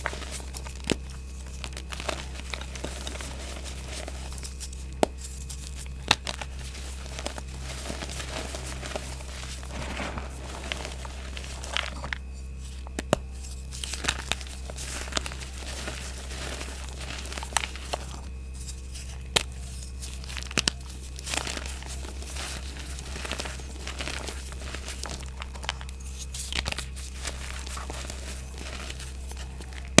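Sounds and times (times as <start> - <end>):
chalk crunching and cracking: 0.0 - 30.0
steady low hum: 0.0 - 30.0.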